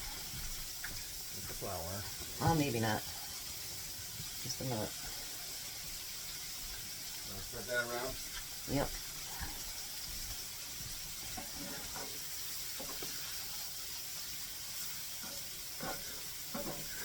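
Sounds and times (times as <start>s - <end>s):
mushrooms sizzling in a skillet: 0.0s - 17.0s.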